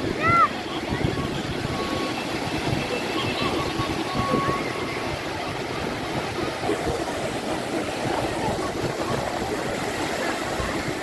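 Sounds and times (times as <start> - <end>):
low rumble of waves: 0.0 - 11.0
surf rushing on shore: 0.0 - 11.0.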